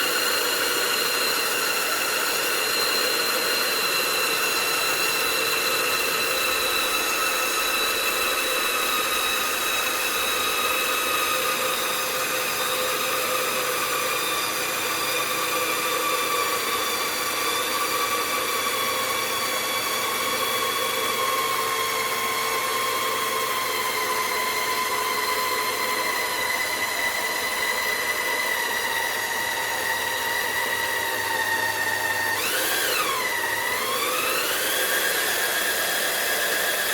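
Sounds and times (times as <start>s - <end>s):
geared motor whining: 0.0s - 36.9s.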